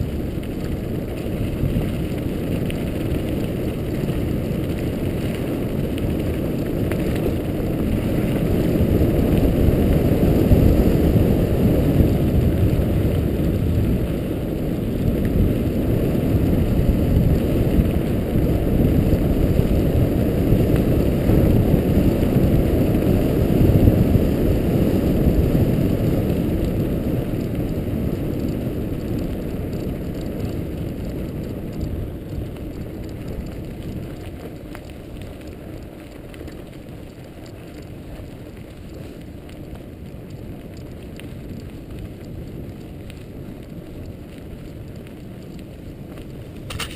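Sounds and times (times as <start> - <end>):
bike tyres rumbling on gravel: 0.0 - 46.9.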